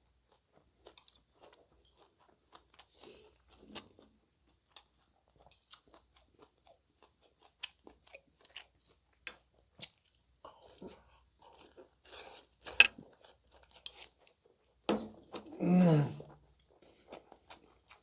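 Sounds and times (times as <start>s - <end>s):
person chewing and crunching food: 0.0s - 18.0s.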